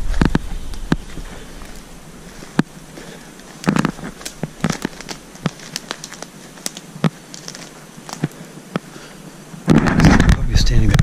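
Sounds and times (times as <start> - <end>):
footsteps on dry pine needles: 0.0 - 10.2
twigs snapping: 0.0 - 10.4.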